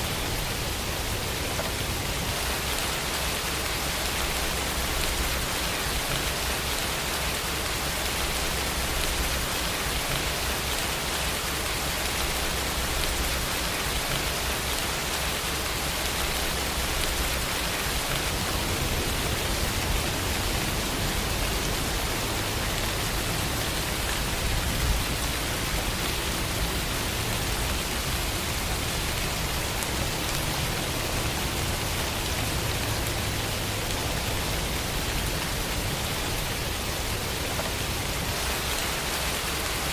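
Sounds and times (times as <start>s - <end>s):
continuous low rumble: 0.0s - 38.9s
steady rainfall: 0.0s - 39.9s.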